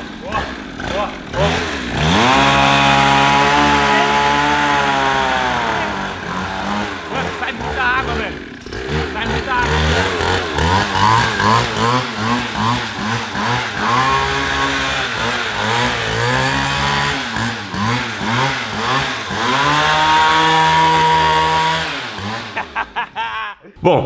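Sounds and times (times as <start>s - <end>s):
small petrol engine revving: 0.0s - 23.2s.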